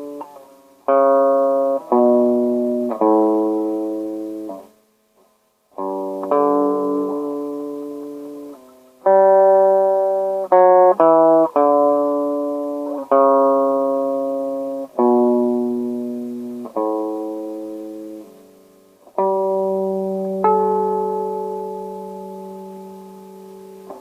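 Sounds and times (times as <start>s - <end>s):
guitar plucking single notes: 0.0s - 4.7s, 5.8s - 18.4s, 19.1s - 24.0s.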